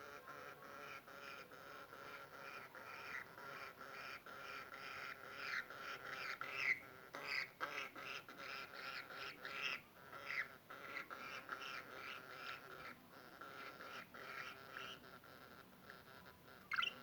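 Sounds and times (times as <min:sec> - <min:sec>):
budgerigar chattering: 0:00.1 - 0:17.0.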